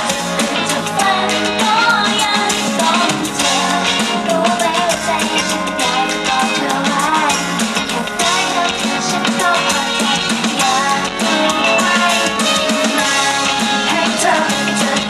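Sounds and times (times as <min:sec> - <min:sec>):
drum kit: 0:00.0 - 0:15.0
electric bass guitar: 0:00.0 - 0:15.0
woman singing: 0:00.0 - 0:15.0.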